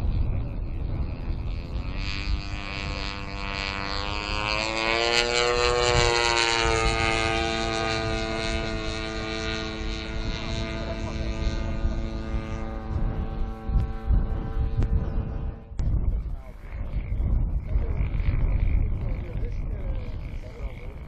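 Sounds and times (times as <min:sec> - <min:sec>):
low wind rumble: 0:00.0 - 0:21.0
model plane engine in flight: 0:00.0 - 0:21.0.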